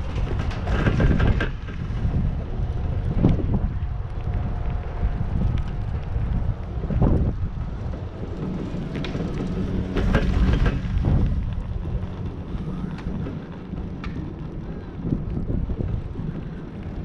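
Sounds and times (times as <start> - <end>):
chairlift low rumble: 0.0 - 17.0
wind buffeting microphone: 0.0 - 17.0.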